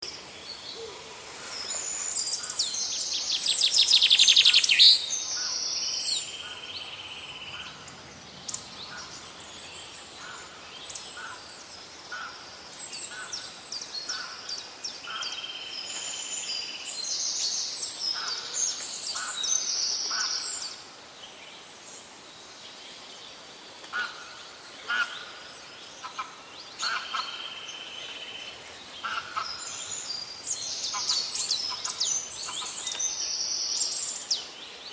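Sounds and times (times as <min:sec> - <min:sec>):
birds calling and singing: 0:00.0 - 0:34.9.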